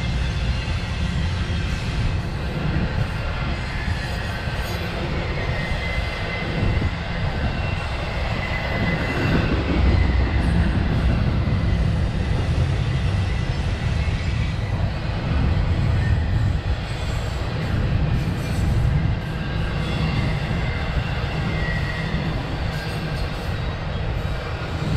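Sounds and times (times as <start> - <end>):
high wheel squeal: 0.0 - 24.9
train wheels rumbling on rail: 0.0 - 24.9.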